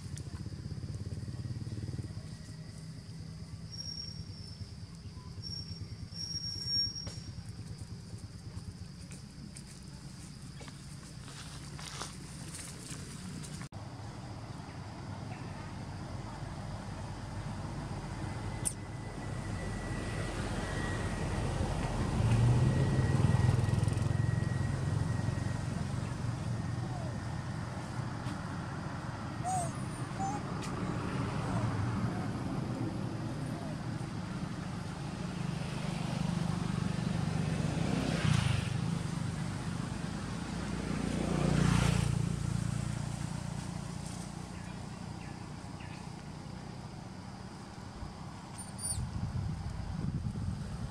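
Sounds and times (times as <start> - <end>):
vehicle engine hum passing: 0.0 - 50.9.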